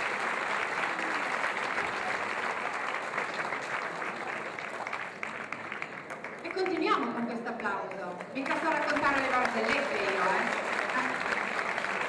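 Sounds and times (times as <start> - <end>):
audience applause: 0.0 - 7.1, 8.0 - 12.0.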